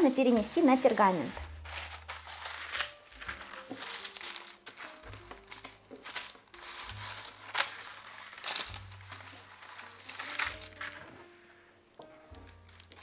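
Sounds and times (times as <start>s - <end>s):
baking parchment crinkling: 0.0s - 11.2s, 12.3s - 13.0s
soft background music: 0.0s - 13.0s.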